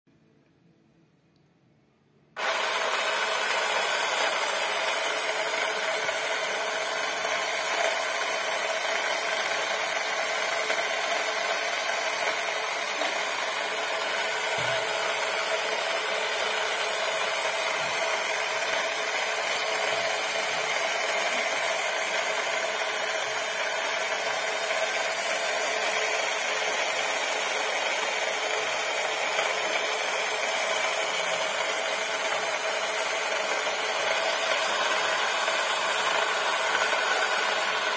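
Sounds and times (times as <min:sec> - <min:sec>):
toy motor whirring: 0:02.4 - 0:37.9.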